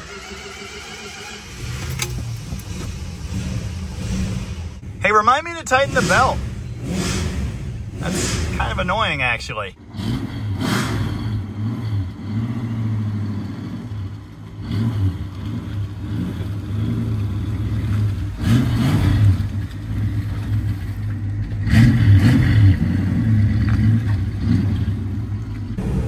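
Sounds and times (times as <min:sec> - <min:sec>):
car engine and exhaust: 0:00.0 - 0:26.0.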